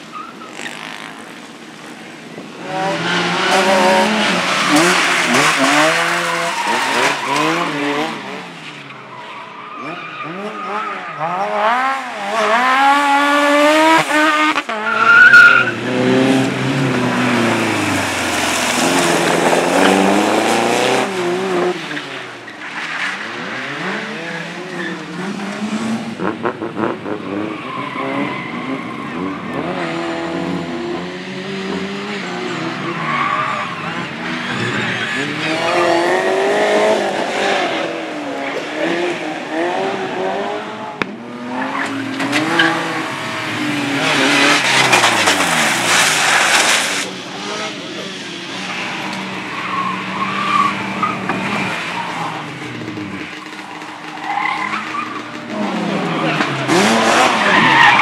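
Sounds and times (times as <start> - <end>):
car engine revving: 9.8 - 22.0, 22.8 - 58.0.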